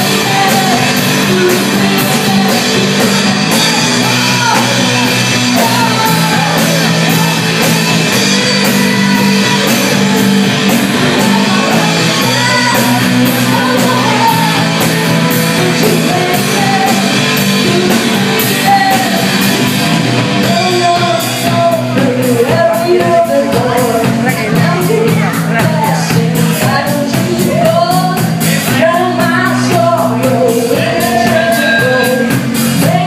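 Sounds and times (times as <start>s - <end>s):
live rock band: 0.0s - 33.0s
steady drum beat: 0.0s - 33.0s
woman singing lead: 0.0s - 33.0s.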